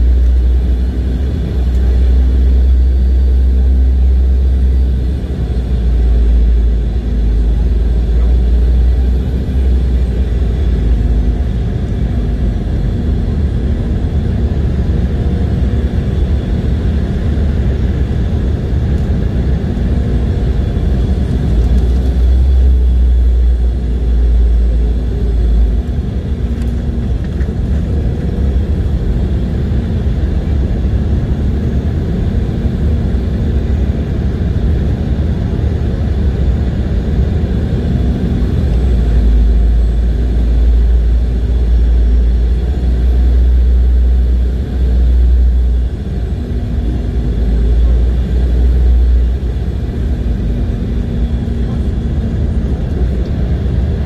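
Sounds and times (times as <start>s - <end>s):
deep airliner cabin rumble: 0.0s - 54.0s.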